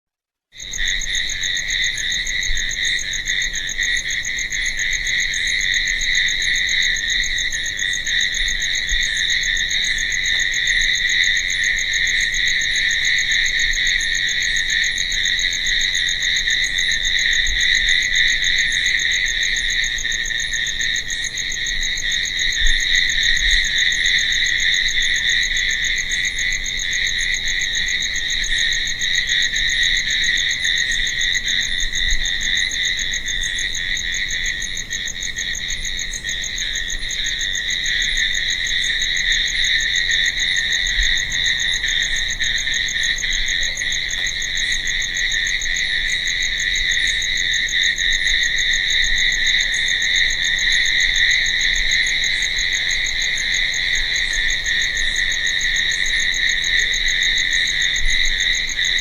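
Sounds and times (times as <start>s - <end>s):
crickets chirping: 0.6s - 59.0s.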